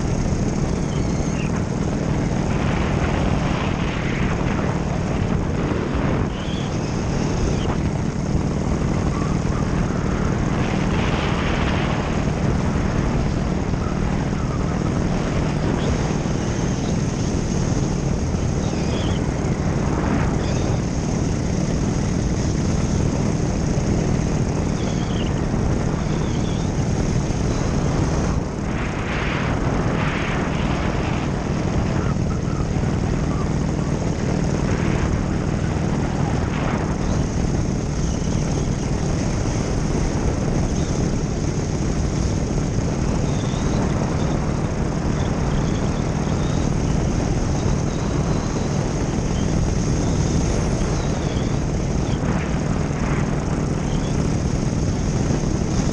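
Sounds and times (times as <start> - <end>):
paramotor engine and propeller: 0.0 - 55.9.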